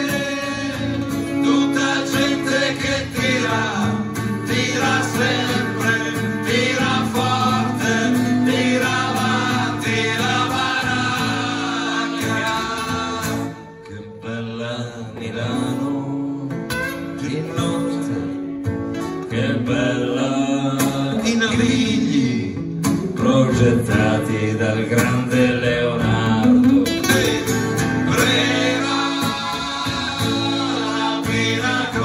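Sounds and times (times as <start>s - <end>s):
men singing into microphones: 0.0s - 18.4s, 19.3s - 22.6s, 23.2s - 32.0s
strummed acoustic guitars: 0.0s - 32.0s.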